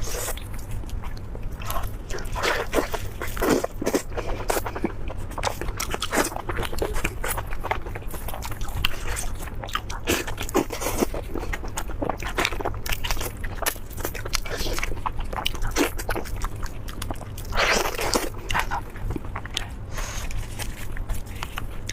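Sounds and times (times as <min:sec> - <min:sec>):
crunchy chewing: 0:00.0 - 0:21.9.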